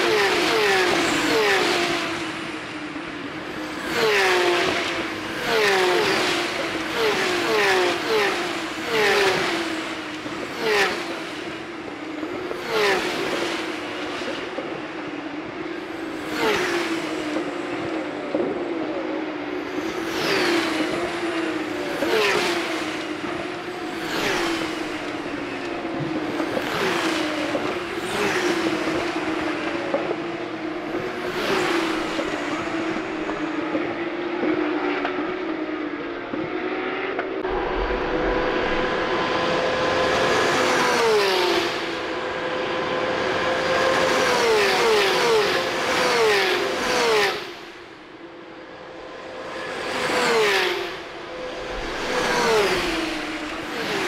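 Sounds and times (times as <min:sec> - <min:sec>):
race car engines downshifting: 0:00.0 - 0:54.0.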